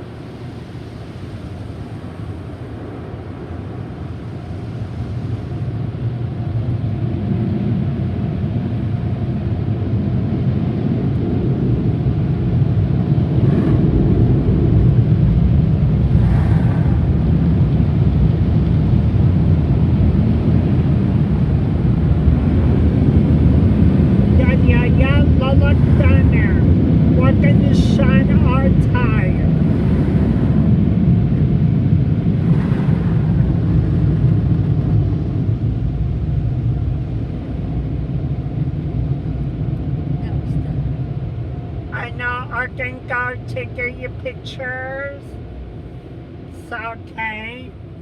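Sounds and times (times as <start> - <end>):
car wash equipment rumbling: 0.0 - 48.0.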